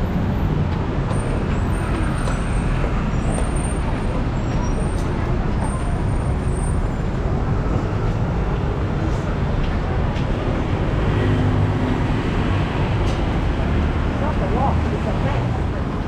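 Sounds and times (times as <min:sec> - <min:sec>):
city road traffic rumble: 0:00.0 - 0:16.0.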